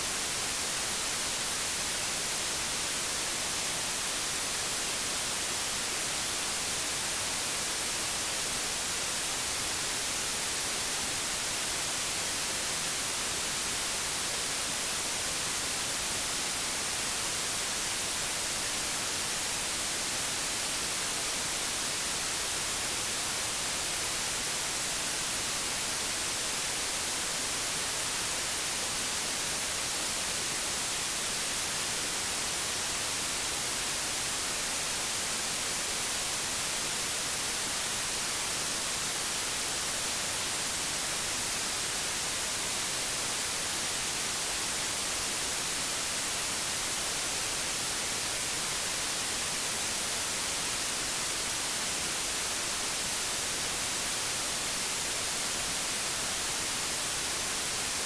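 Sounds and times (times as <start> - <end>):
television static hiss: 0.0 - 58.0.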